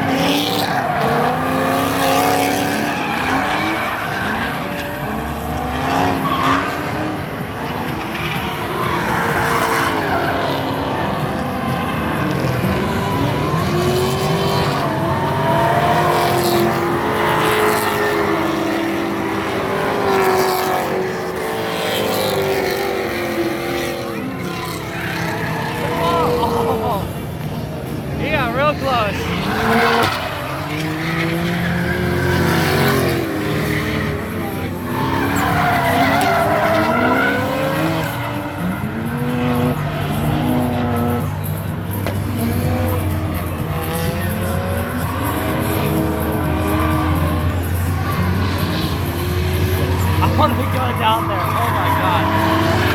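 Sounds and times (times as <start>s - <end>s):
car engines revving: 0.0s - 52.9s
tyres squealing: 0.0s - 52.9s.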